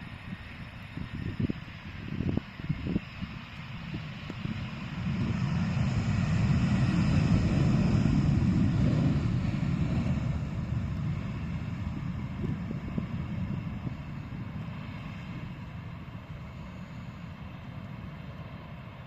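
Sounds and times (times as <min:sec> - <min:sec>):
wind on microphone: 0:00.0 - 0:18.5
jet airliner rumble: 0:00.0 - 0:19.0.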